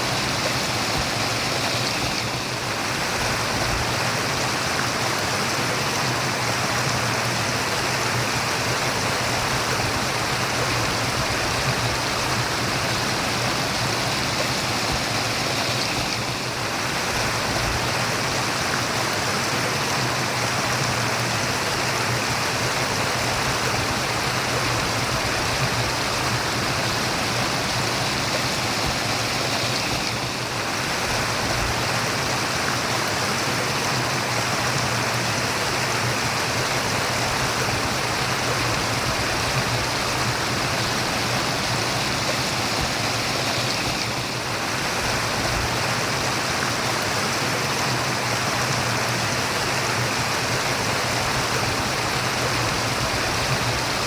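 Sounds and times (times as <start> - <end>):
running water murmuring: 0.0 - 54.0.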